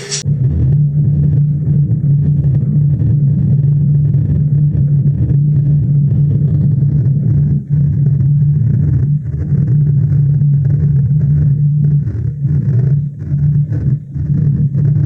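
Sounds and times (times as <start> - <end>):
loud low-pitched drone: 0.0 - 15.0.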